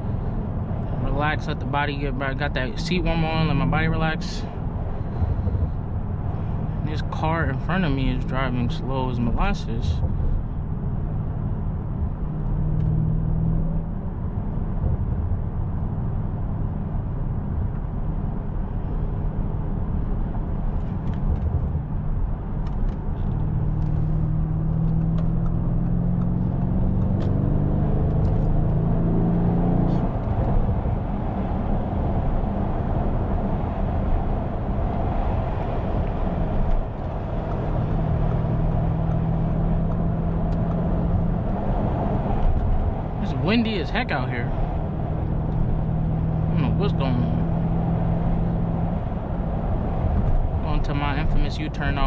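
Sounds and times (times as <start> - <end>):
car engine humming: 0.0 - 52.0
road and tyre noise: 0.0 - 52.0.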